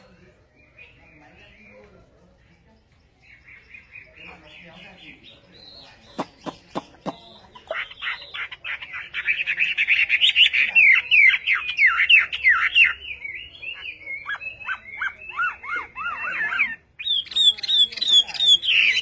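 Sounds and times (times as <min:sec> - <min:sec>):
bird singing varied song: 0:00.0 - 0:19.0.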